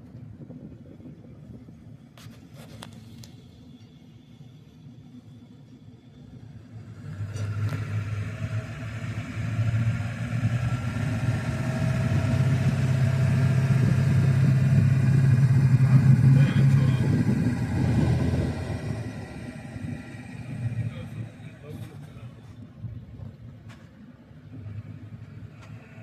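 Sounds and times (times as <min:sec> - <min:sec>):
vehicle engine running under load: 0:00.0 - 0:26.0.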